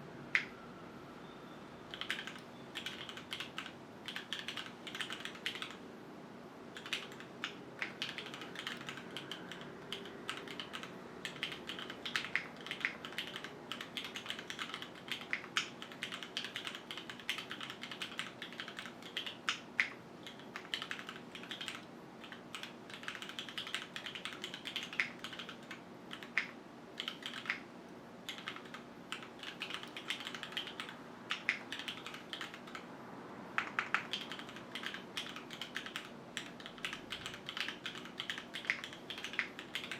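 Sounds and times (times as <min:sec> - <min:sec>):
mechanical keyboard typing: 0:01.9 - 0:05.8, 0:06.8 - 0:27.6, 0:28.3 - 0:32.9, 0:33.6 - 0:39.9.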